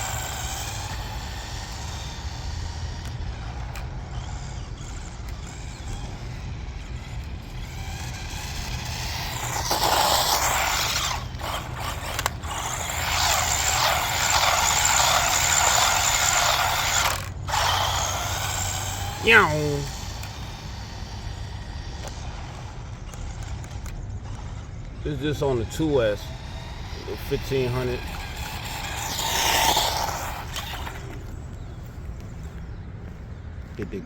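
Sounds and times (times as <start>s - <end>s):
toy truck electric motor whirring: 0.0s - 31.8s
steady low hum: 0.0s - 34.0s.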